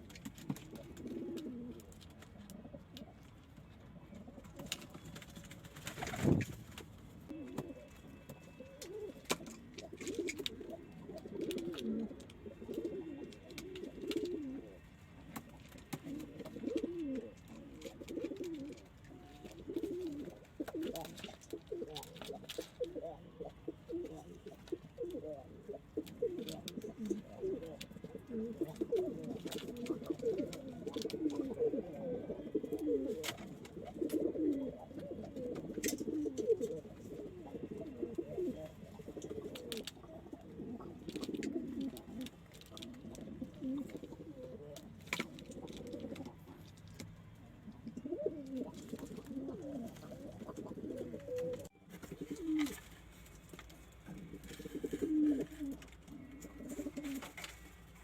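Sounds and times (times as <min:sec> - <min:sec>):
pigeons cooing: 0:00.0 - 0:03.3, 0:07.3 - 0:46.7, 0:47.6 - 0:52.9, 0:53.9 - 0:57.6.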